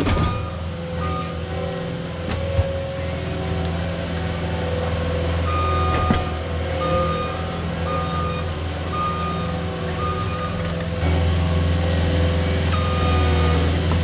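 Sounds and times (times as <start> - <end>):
backup alarm beeping: 0.0 - 3.2, 5.3 - 13.7
diesel engine running: 0.0 - 14.0.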